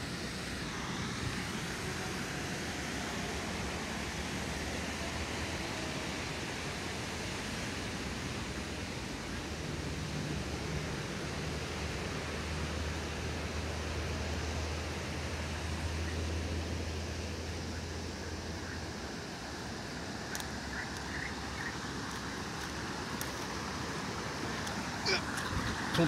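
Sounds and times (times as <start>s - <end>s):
water rushing over weir: 0.0s - 26.0s.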